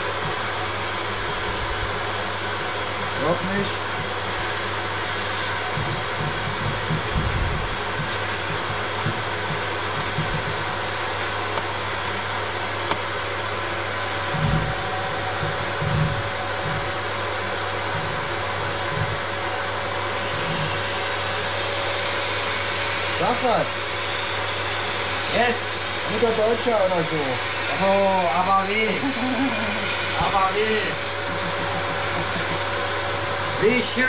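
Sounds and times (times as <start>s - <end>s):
drain-cleaning machine running: 0.0s - 34.0s.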